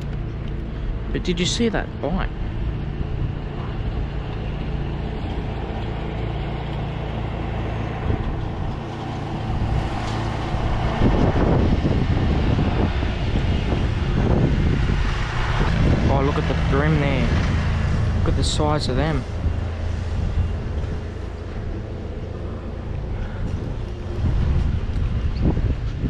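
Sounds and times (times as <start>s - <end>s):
engine humming: 0.0s - 26.0s
uneven low rumble: 0.0s - 26.0s.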